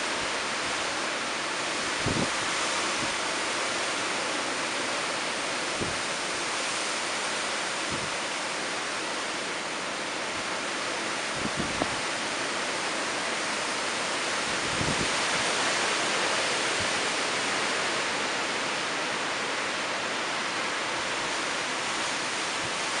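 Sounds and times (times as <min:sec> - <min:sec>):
heavy wind-driven rain: 0:00.0 - 0:23.0
howling wind: 0:00.0 - 0:23.0.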